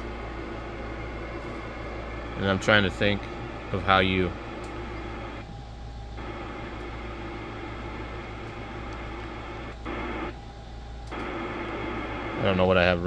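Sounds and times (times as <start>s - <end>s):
constant low hum: 0.0s - 13.0s
radio receiver hiss and static: 0.0s - 13.0s.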